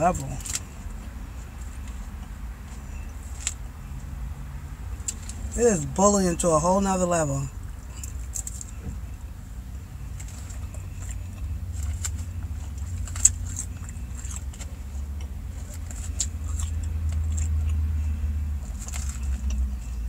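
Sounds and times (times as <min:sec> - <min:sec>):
low rumble inside car: 0:00.0 - 0:20.0.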